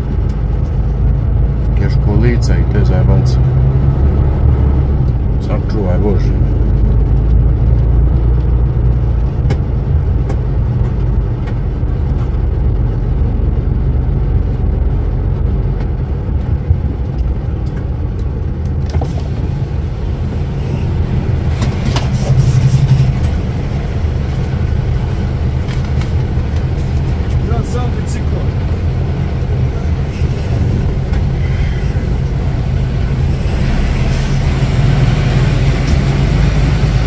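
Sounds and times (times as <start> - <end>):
truck engine droning: 0.0 - 37.0.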